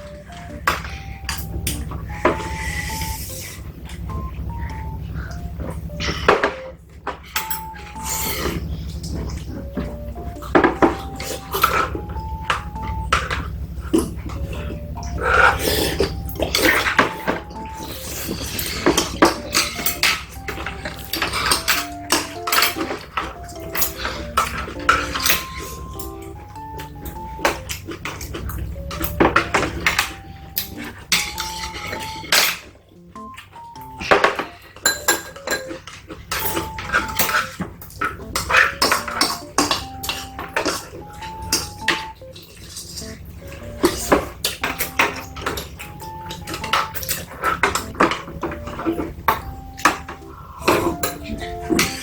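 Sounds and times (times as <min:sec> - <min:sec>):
quiet background music: 0:00.0 - 0:52.0
utensils clinking against dishes: 0:00.0 - 0:52.0.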